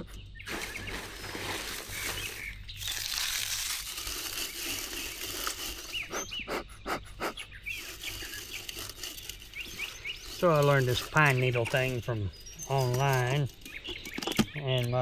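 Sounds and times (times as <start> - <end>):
small birds chirping: 0.0 - 15.0
rustling and crinkling: 0.4 - 6.4, 7.7 - 15.0.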